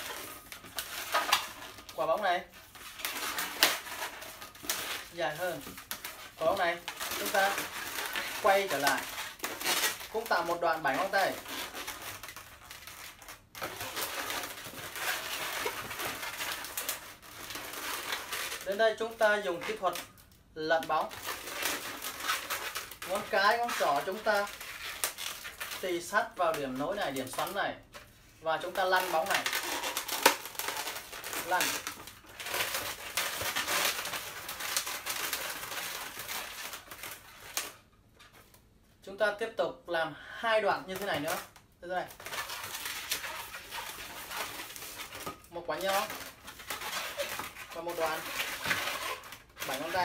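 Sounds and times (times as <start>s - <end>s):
latex balloon rubbing and twisting: 0.0s - 20.0s, 20.7s - 27.6s, 28.5s - 37.7s, 42.0s - 50.0s.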